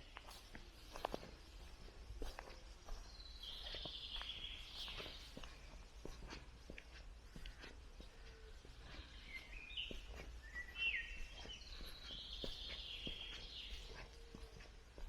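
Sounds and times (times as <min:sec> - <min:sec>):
footsteps on a path: 0:00.0 - 0:15.0
songbird singing: 0:00.0 - 0:15.0.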